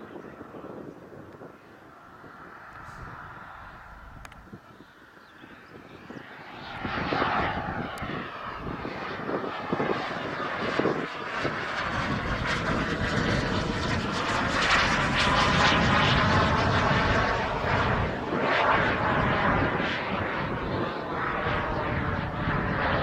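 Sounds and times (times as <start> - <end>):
model jet engine rushing: 0.0 - 23.0.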